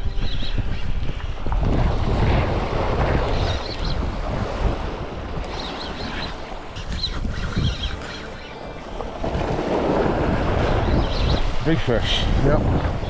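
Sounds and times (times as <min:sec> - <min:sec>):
wind buffeting microphone: 0:00.0 - 0:13.0
surf washing on a beach: 0:01.0 - 0:13.0.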